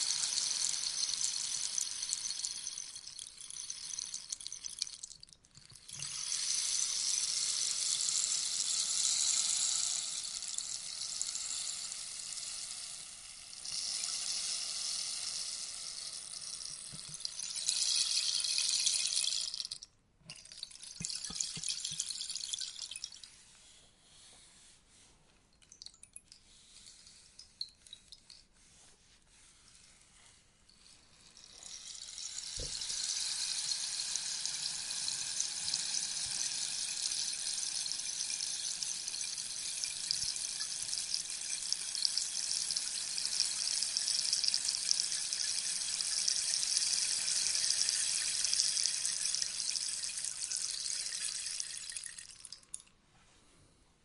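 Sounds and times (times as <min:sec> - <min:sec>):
rainstick beads pattering: 0:00.0 - 0:12.9, 0:13.6 - 0:23.2, 0:30.7 - 0:52.9.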